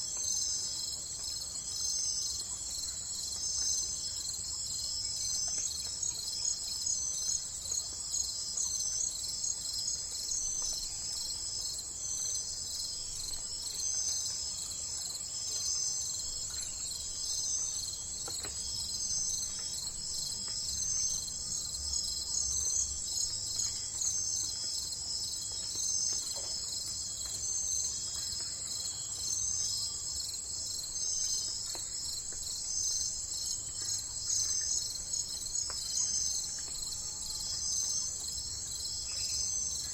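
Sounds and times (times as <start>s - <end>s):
insects chirping: 0.2s - 39.9s.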